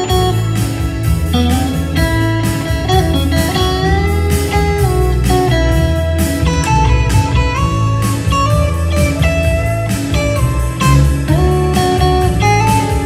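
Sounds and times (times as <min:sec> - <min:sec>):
bass guitar: 0:00.0 - 0:13.0
electric guitar lead: 0:00.0 - 0:13.0
keyboard: 0:00.0 - 0:13.0
steady beat: 0:00.0 - 0:13.0.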